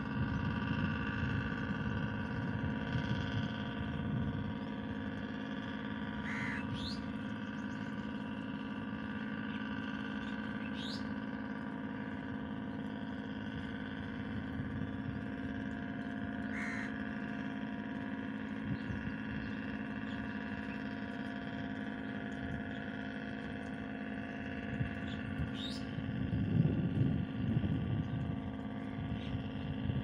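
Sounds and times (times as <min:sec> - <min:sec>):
engine-like drone: 0:00.0 - 0:30.0.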